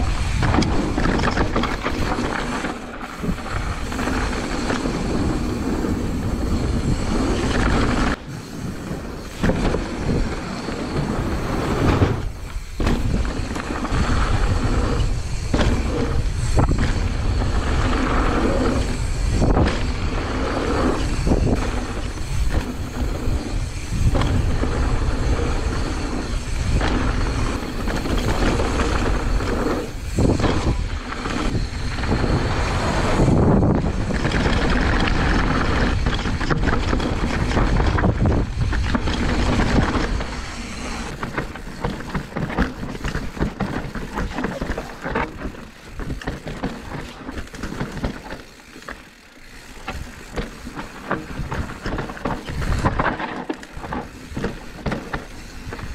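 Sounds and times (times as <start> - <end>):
bike tyres rumbling over rough ground: 0.0 - 55.9.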